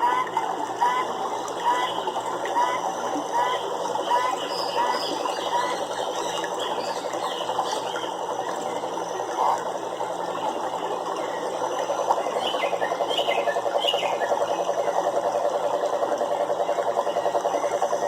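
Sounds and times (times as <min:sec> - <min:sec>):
frog chorus croaking: 0:00.8 - 0:18.0.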